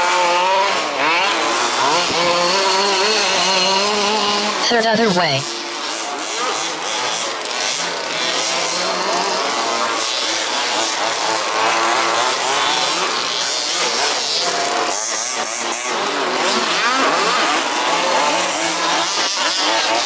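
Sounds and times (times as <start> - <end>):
small two-stroke engines racing: 0.0 - 20.0.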